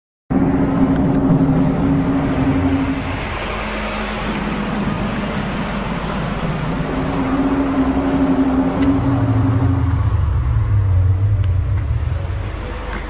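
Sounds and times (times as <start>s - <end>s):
loud low humming drone: 0.3s - 13.0s.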